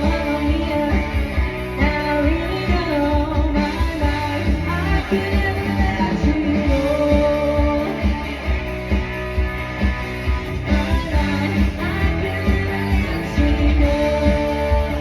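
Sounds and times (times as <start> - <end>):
person singing: 0.0 - 8.6, 10.5 - 15.0
guitar: 0.0 - 15.0
steady drum beat: 0.0 - 15.0.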